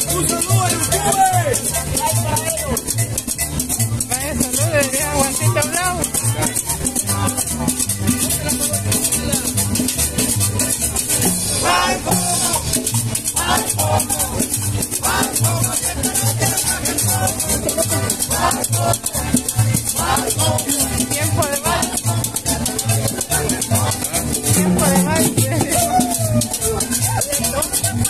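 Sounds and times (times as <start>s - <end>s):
latin dance music: 0.0s - 28.0s
maracas shaking: 0.0s - 28.0s.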